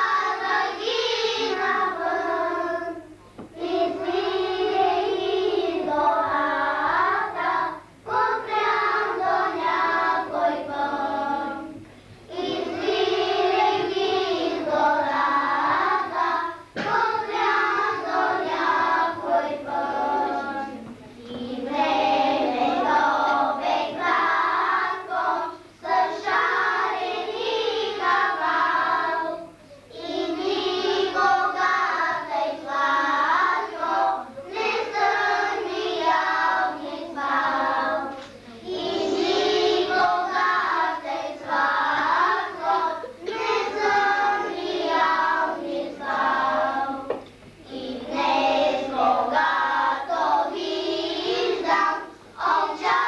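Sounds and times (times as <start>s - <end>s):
children singing in chorus: 0.0s - 53.0s.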